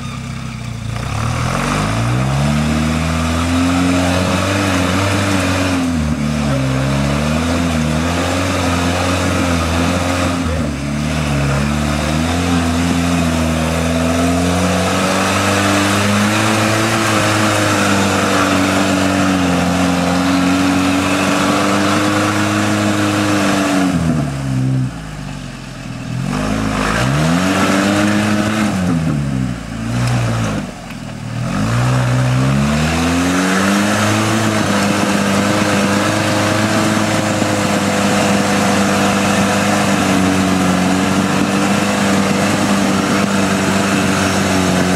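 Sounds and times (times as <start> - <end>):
truck engine revving under load: 0.0 - 44.9.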